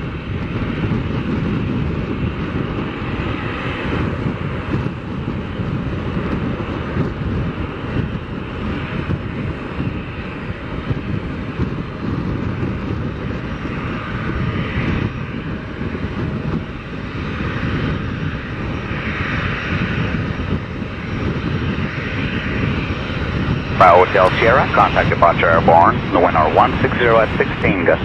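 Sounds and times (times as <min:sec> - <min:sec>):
jet engines rumbling and whining: 0:00.0 - 0:28.0.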